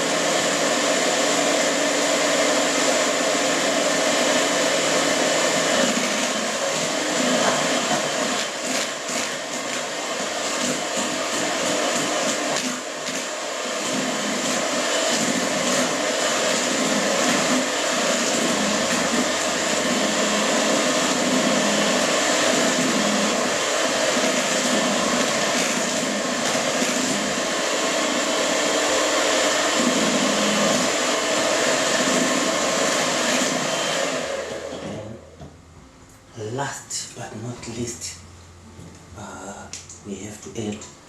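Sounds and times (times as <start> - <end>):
electric mixer whining: 0.0 - 35.5.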